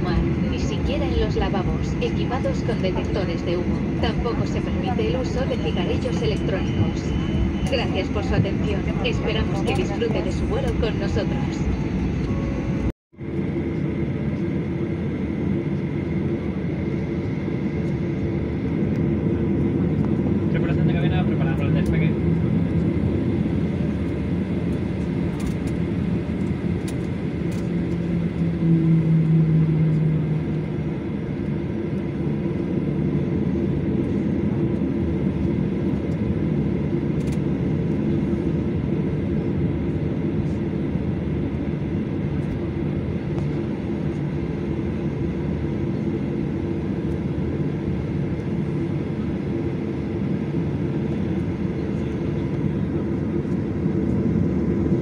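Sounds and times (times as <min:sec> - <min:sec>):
jet engines hum and hiss: 0:00.0 - 0:55.0.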